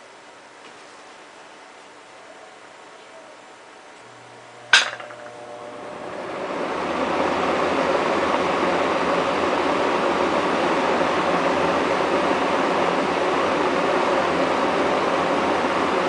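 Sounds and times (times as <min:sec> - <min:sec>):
fan air rush and motor hum: 0:00.0 - 0:16.0.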